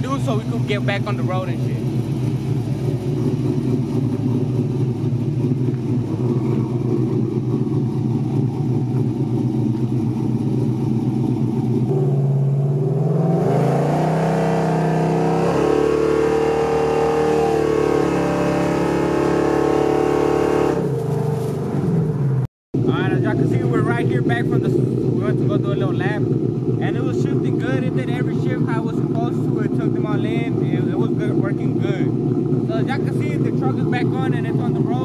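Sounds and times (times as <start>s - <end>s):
truck engine accelerating: 0.0s - 35.0s.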